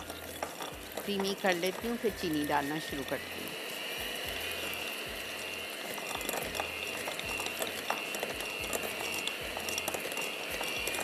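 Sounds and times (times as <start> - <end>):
beaters clicking: 0.0 - 3.4, 4.1 - 11.0
electric mixer motor whine: 0.0 - 11.0.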